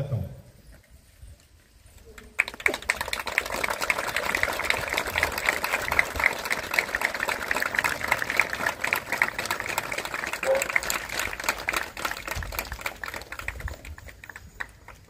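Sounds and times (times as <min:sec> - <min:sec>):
crowd applauding: 0:02.2 - 0:15.0.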